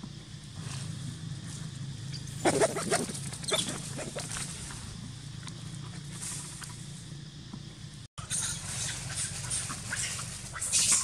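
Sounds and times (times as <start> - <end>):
steady low hum: 0.0 - 10.8
rustling in dry leaves: 0.3 - 7.2, 8.2 - 11.0.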